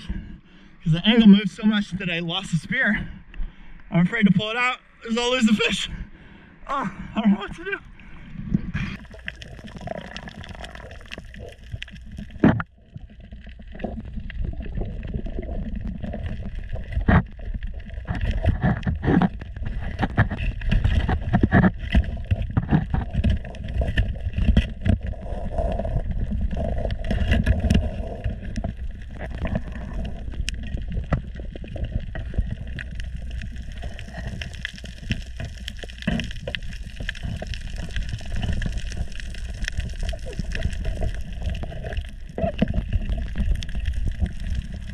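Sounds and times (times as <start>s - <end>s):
low underwater rumble: 7.9s - 44.9s.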